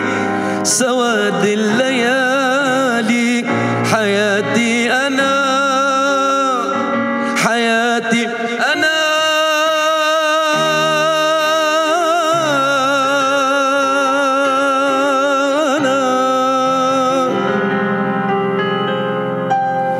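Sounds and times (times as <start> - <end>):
man singing with vibrato: 0.0 - 18.4
sustained keyboard chords: 0.0 - 19.9.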